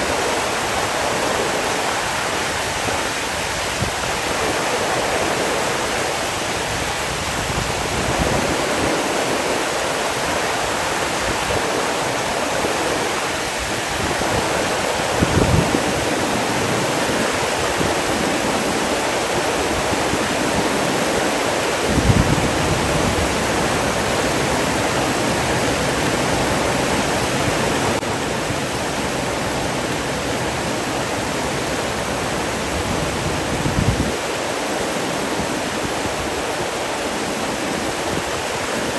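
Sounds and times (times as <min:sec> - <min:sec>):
rush of flowing water: 0:00.0 - 0:38.9.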